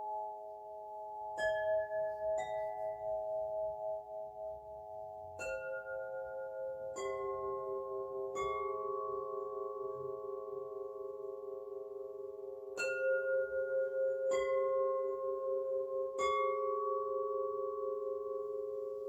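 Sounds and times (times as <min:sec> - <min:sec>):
singing bowls ringing: 0:00.0 - 0:19.0.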